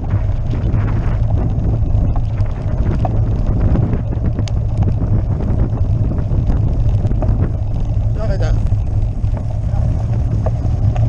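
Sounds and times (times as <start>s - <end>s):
bicycle rattling over cobblestones: 0.0s - 11.0s
wind buffeting microphone: 0.0s - 11.0s.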